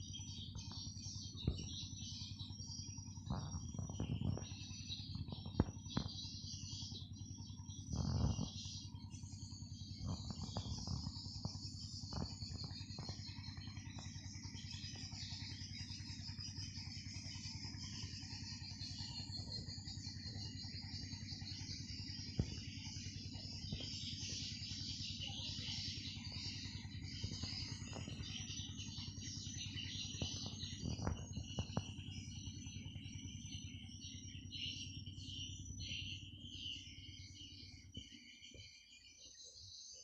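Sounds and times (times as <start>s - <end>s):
steady low rumble: 0.0s - 15.2s, 18.6s - 36.6s.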